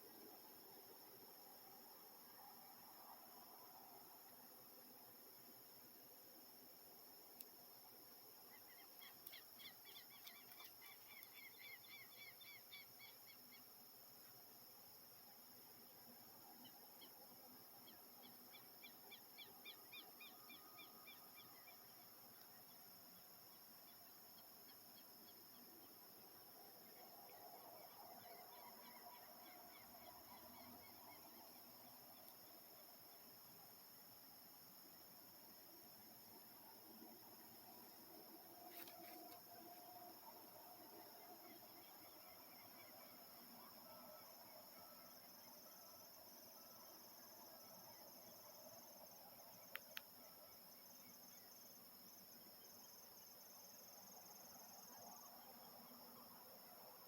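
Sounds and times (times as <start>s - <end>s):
high insect hum: 0.0s - 57.0s.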